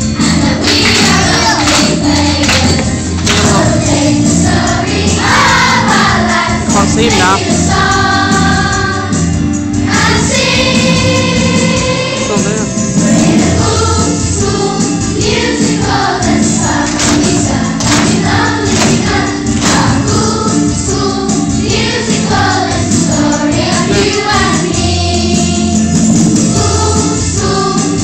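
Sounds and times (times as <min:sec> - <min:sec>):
musical accompaniment: 0:00.0 - 0:28.0
children singing in chorus: 0:00.1 - 0:09.2, 0:09.9 - 0:28.0.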